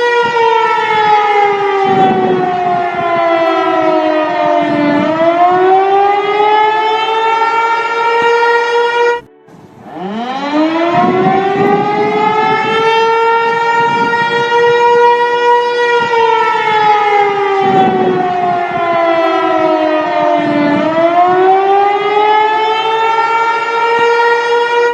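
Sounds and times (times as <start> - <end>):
outdoor warning siren: 0.0 - 24.9.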